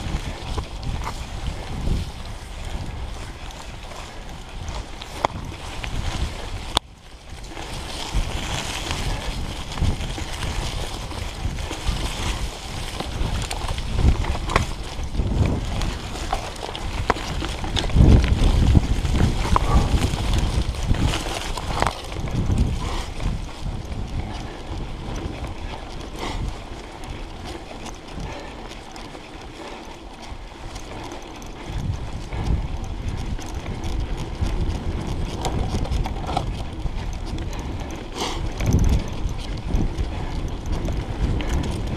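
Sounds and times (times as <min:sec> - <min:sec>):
bike rattling and knocking: 0:00.0 - 0:41.9
bike tyres on dirt: 0:00.0 - 0:41.9
wind buffeting microphone: 0:00.0 - 0:41.9.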